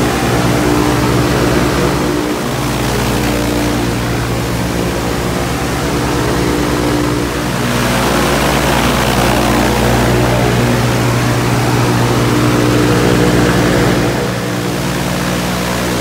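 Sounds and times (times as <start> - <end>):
aircraft engine running: 0.0 - 16.0.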